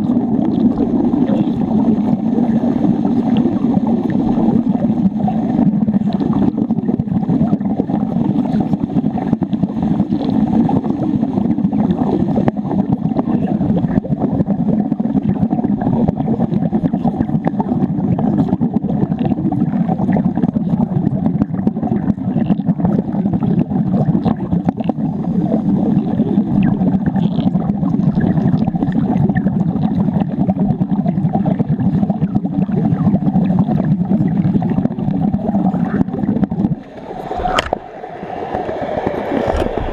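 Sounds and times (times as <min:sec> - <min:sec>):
underwater welding arc crackling: 0:00.0 - 0:39.9.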